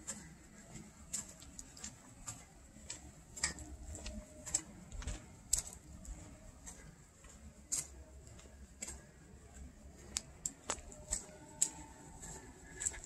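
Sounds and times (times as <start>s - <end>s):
footsteps on pavement: 0.0s - 13.0s.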